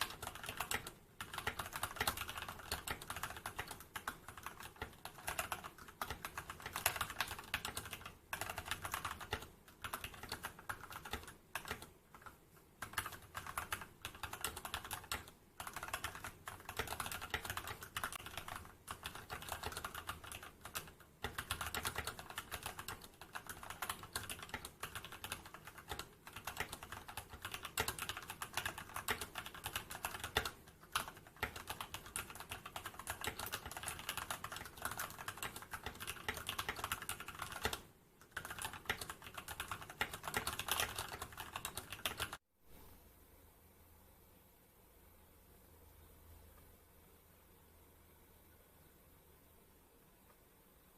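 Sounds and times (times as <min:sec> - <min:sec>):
mechanical keyboard typing: 0:00.0 - 0:42.4.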